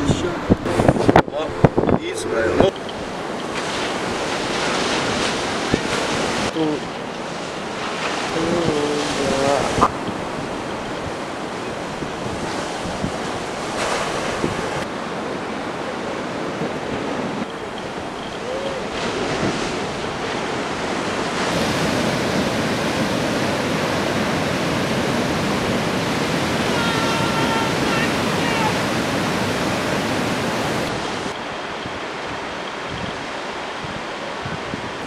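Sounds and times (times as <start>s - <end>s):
wind on microphone: 0.0s - 15.4s, 16.1s - 35.0s
sea surf rushing: 0.0s - 35.0s.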